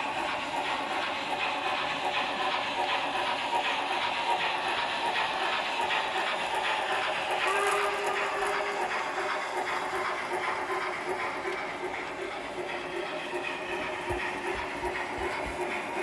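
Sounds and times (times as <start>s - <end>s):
model train rolling: 0.0s - 16.0s
wheels clicking on track: 0.0s - 16.0s.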